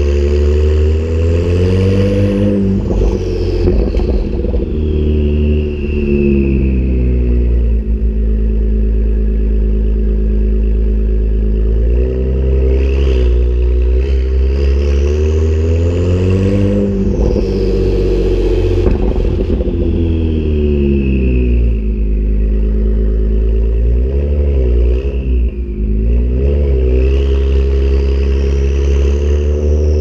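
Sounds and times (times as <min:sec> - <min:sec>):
turbo whine: 0:00.0 - 0:24.0, 0:24.6 - 0:30.0
car engine idling and revving: 0:00.0 - 0:30.0
exhaust crackling: 0:00.0 - 0:30.0.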